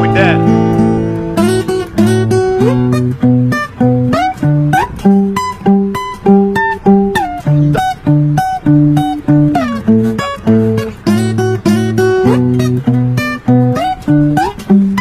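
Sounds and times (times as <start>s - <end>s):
fingerstyle acoustic guitar: 0.0s - 15.0s.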